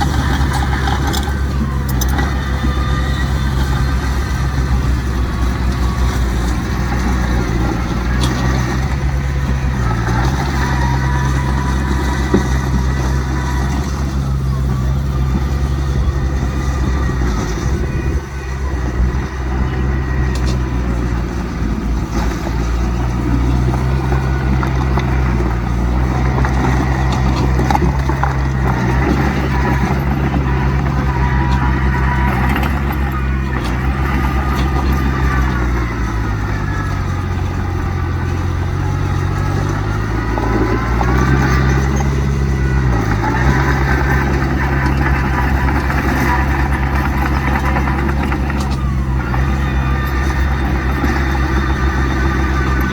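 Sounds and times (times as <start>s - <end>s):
heavy diesel machinery running: 0.0s - 52.9s.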